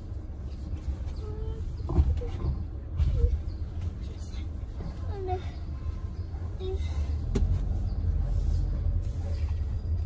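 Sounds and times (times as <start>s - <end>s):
car rumble from inside cabin: 0.1s - 10.0s.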